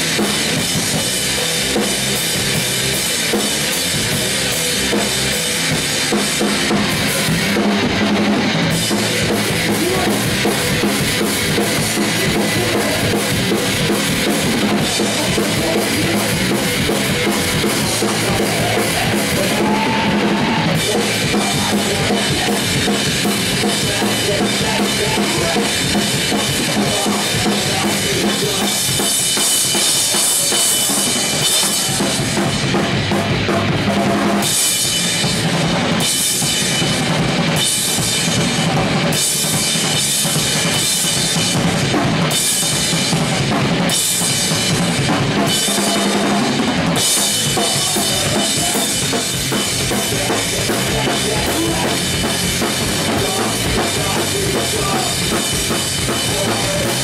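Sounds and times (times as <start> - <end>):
drum kit playing: 0.0 - 57.0.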